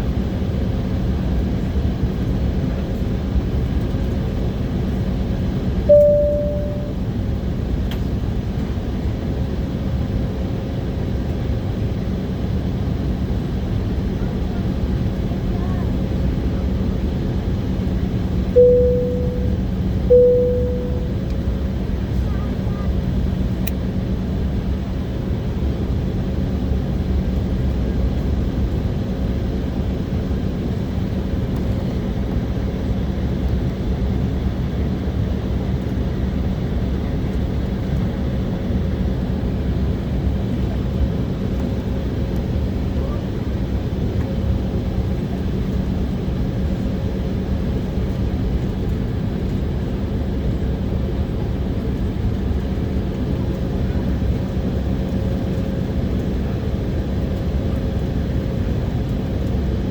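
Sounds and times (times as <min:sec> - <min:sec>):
jet engines drone in cabin: 0:00.0 - 0:59.9.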